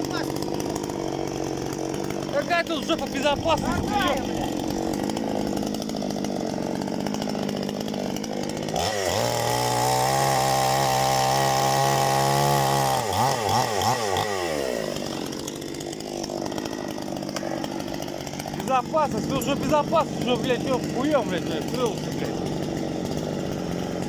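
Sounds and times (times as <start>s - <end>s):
two-stroke chainsaw revving: 0.0s - 24.0s.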